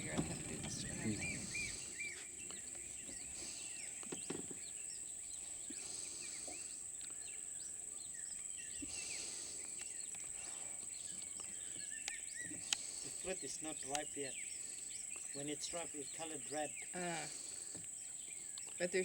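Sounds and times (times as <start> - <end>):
bird chirps and calls: 0.0 - 19.0.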